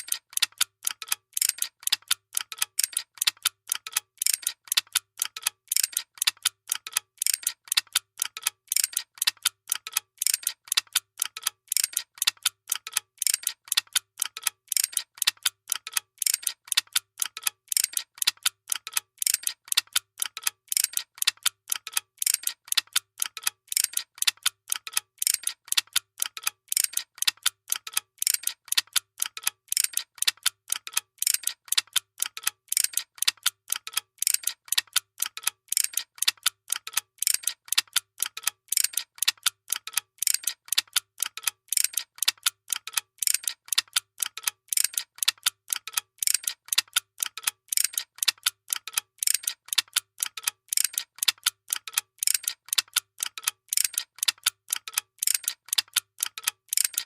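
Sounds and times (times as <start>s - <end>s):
machinery ticking sharp clicks: 0.0s - 57.0s.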